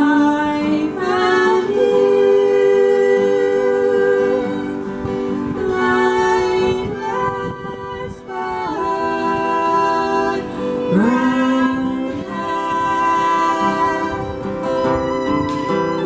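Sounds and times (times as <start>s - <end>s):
person singing long notes: 0.0s - 14.8s
plucked acoustic guitar: 0.0s - 16.0s.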